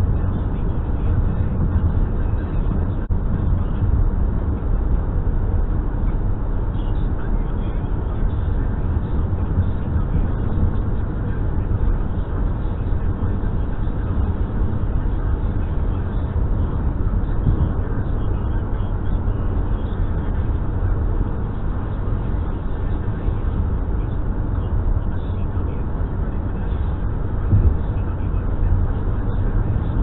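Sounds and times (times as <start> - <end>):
car driving heard from inside: 0.0 - 30.0.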